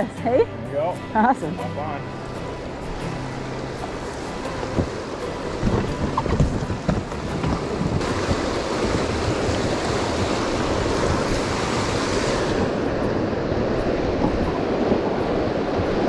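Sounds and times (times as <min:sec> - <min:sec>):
river water rushing over rocks: 0:01.5 - 0:16.0
wind buffeting microphone: 0:02.4 - 0:16.0.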